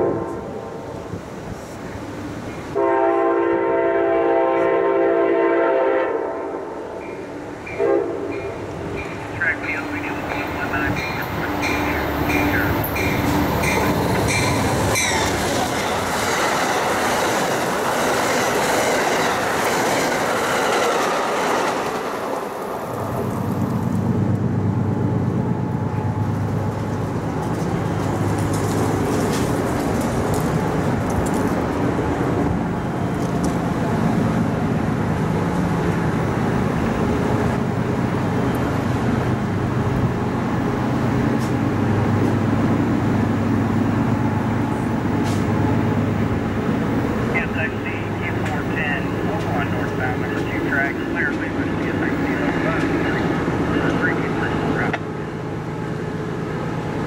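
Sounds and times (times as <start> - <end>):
train cars passing: 0.0 - 57.0.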